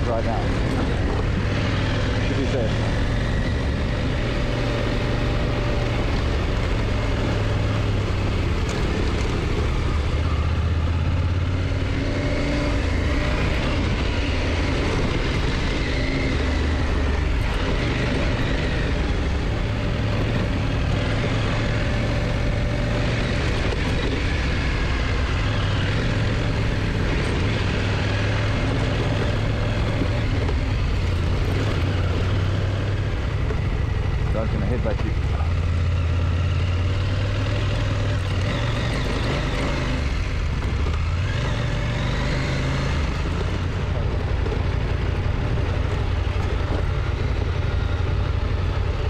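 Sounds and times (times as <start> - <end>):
motorcycle engine running: 0.0 - 49.0
wind and road noise: 0.0 - 49.0.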